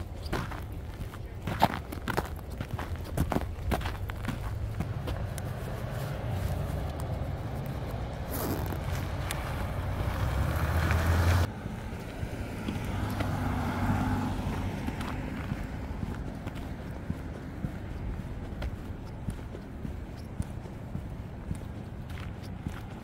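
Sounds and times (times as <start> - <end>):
faint traffic noise: 0.0 - 23.0
trucks driving past: 0.0 - 23.0.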